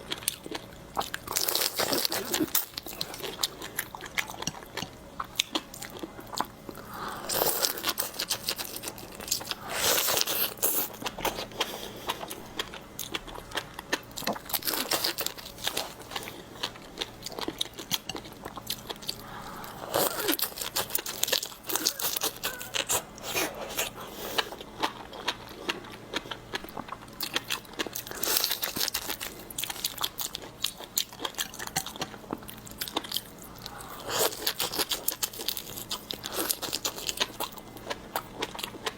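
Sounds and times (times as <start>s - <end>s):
crunching and chewing seafood: 0.0s - 38.9s.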